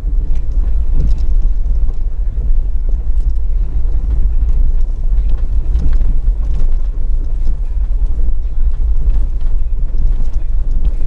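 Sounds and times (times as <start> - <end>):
vehicle rumbling on dirt road: 0.0 - 11.0.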